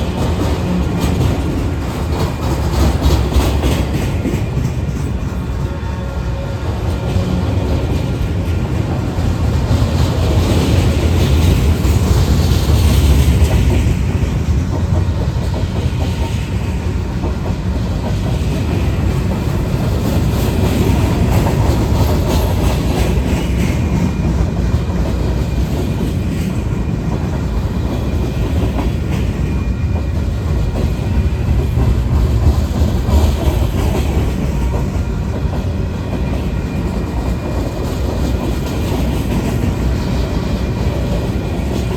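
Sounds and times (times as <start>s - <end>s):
freight train rumbling past: 0.0s - 41.9s
wheels clacking over rails: 0.0s - 41.9s.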